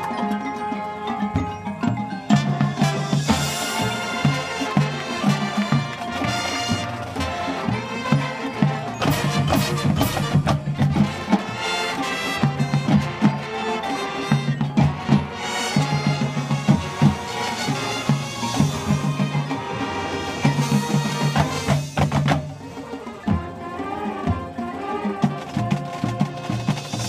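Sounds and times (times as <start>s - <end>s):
drumline percussion: 0.0s - 27.0s
low brass notes: 2.3s - 27.0s.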